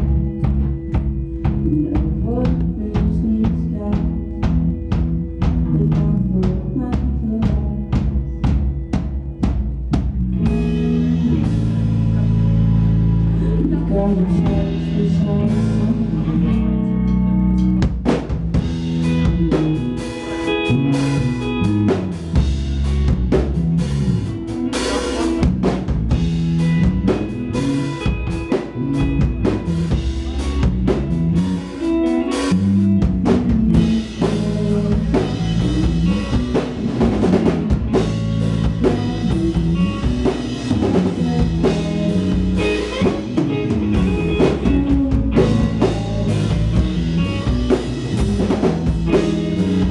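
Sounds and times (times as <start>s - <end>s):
drum kit: 0.0s - 49.9s
electric guitar: 0.0s - 49.9s.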